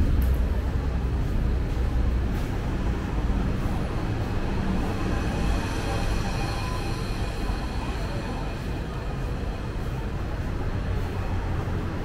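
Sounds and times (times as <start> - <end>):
train rumbling on viaduct: 0.0 - 12.0.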